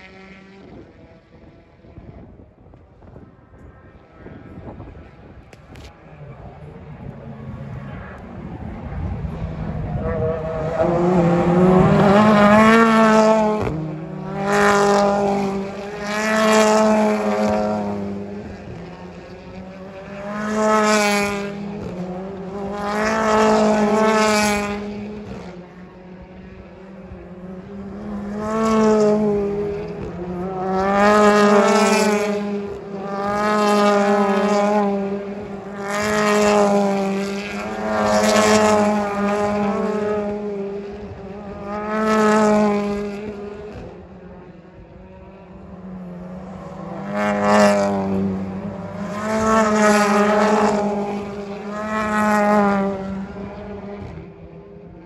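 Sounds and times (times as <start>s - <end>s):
race cars passing: 0.0s - 55.0s.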